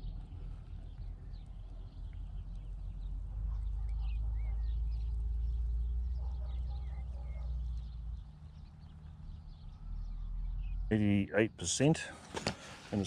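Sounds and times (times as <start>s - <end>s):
low steady rumble: 0.0s - 11.9s
small birds chirping and warbling: 0.0s - 13.0s.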